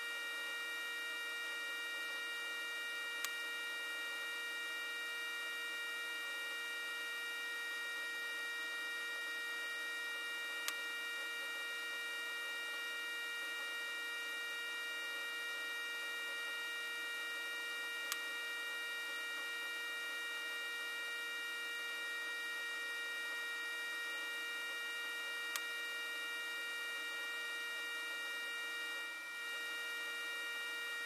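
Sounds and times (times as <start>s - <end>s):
electrical hum and whine: 0.0s - 31.0s.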